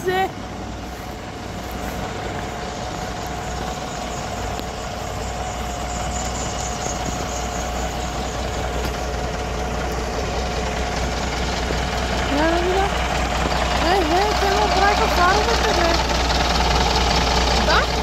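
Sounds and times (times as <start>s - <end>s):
bus diesel engine idling: 0.0s - 18.0s
steady whine: 0.0s - 18.0s.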